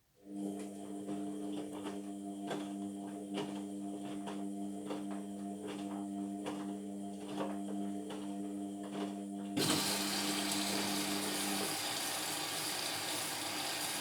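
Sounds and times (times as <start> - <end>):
washing machine humming: 0.9 - 14.0.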